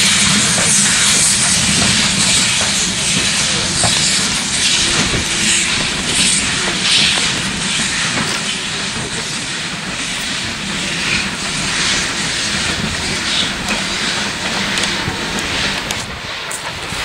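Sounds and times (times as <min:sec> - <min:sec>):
hiss of steam: 0:00.0 - 0:17.0
train rumbling on rails: 0:00.0 - 0:17.0.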